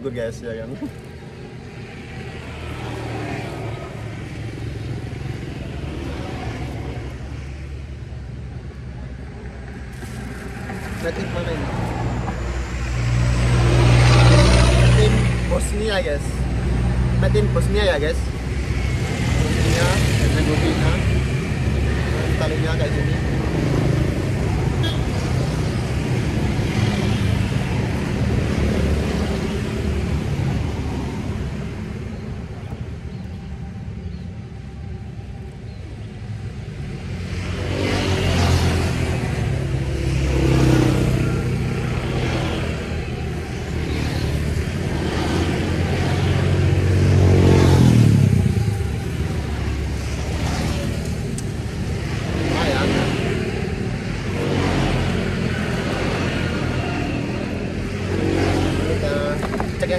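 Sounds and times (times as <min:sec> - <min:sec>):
vehicle engines rumbling: 0:00.0 - 0:59.9.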